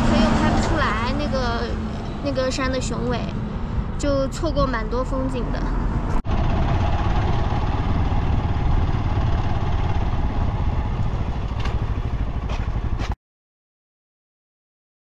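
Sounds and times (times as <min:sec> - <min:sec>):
motorcycle engine rumbling: 0:00.0 - 0:13.2.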